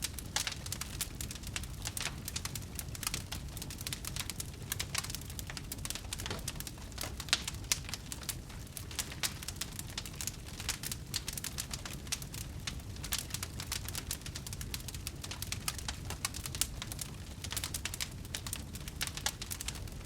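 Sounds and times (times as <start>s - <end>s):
fire rumbling: 0.0s - 20.0s
wood fire crackling and popping: 0.0s - 20.0s.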